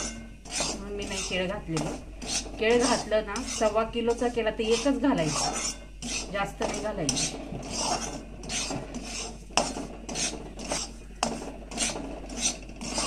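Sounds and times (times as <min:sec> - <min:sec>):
spatula scraping a metal pan: 0:00.0 - 0:13.0.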